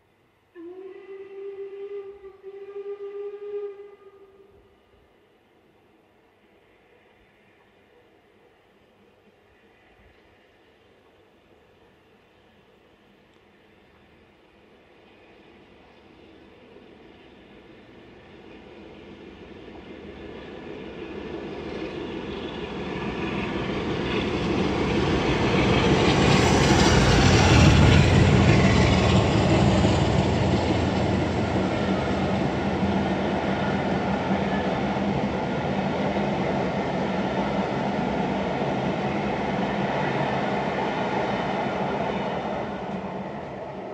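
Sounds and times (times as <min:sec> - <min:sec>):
steam train passing: 0:00.0 - 0:43.9
train coaches rolling past: 0:04.6 - 0:43.9.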